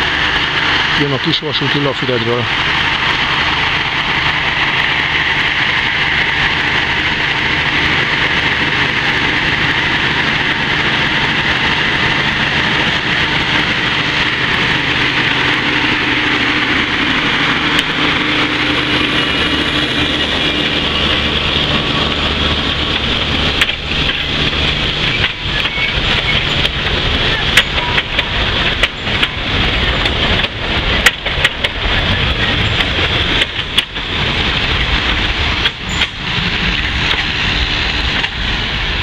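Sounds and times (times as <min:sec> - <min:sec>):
diesel locomotive engine drone: 0:00.0 - 0:39.0
train wheels clacking on rails: 0:00.0 - 0:39.0.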